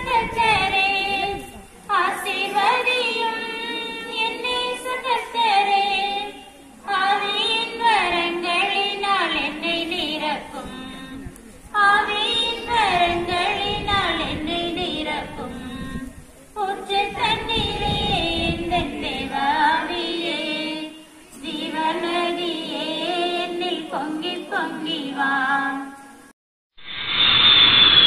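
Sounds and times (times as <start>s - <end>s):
women singing unaccompanied: 0.0s - 26.3s.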